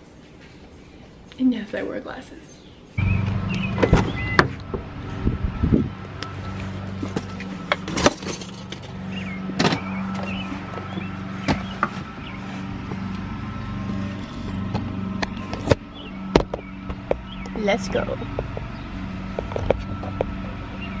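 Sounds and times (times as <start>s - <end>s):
steady low hum: 2.8s - 21.0s.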